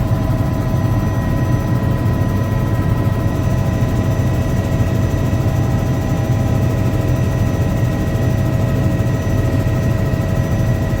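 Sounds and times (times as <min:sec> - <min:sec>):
helicopter running: 0:00.0 - 0:10.9.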